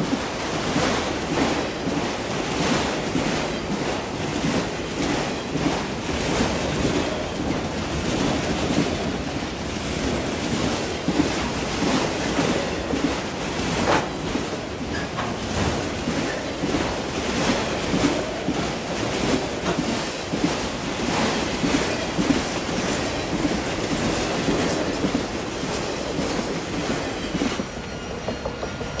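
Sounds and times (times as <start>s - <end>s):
freight train rolling past: 0.0s - 29.0s
steel wheels rumbling on rail: 0.0s - 29.0s.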